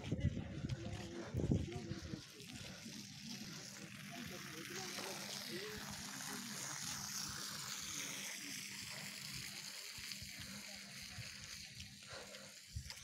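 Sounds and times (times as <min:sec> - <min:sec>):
garden hose spraying on grass: 0:00.0 - 0:13.0.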